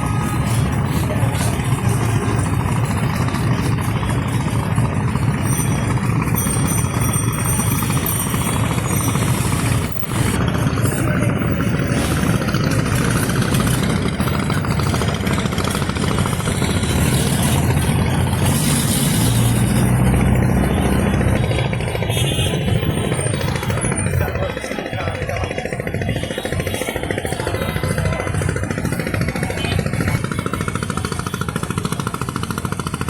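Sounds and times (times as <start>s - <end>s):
motor traffic noise: 0.0s - 33.0s.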